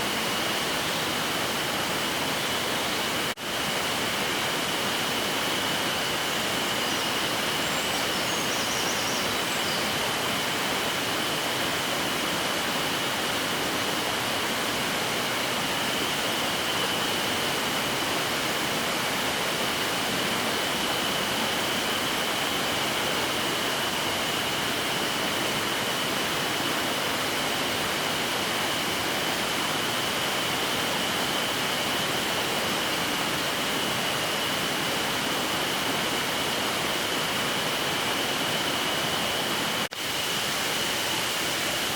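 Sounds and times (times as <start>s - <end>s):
stream rushing: 0.0s - 41.9s.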